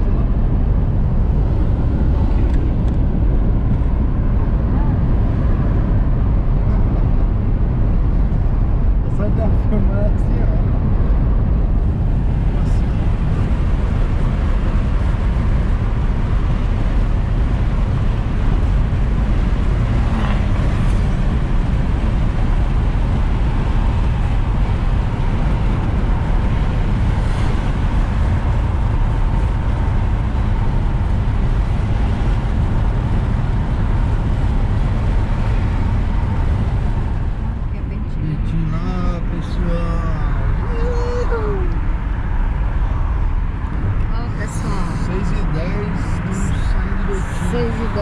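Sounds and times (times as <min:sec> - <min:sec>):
car road and engine noise: 0:00.0 - 0:48.0.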